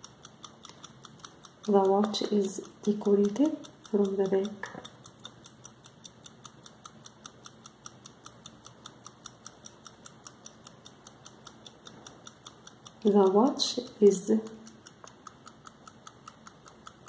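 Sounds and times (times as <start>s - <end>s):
pocket watch ticking: 0.0s - 17.0s.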